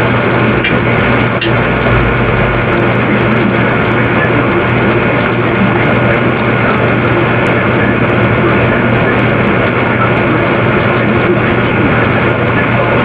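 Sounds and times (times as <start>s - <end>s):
loud steady droning: 0.0s - 13.0s
low hum: 0.0s - 13.0s.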